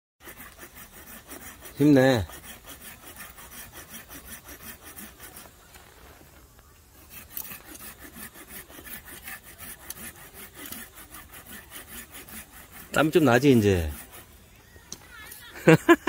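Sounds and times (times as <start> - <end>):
hand saw rasping through branch: 0.2 - 5.8, 7.0 - 14.4.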